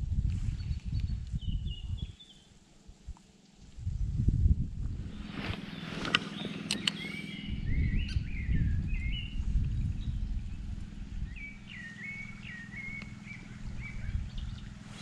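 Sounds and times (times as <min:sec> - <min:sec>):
songbird chirping: 0:00.4 - 0:02.6, 0:05.1 - 0:15.0
low rumble: 0:02.8 - 0:15.0.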